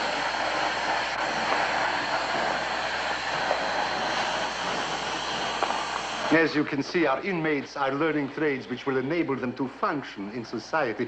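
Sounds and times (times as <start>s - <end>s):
workshop machinery running: 0.0s - 11.0s.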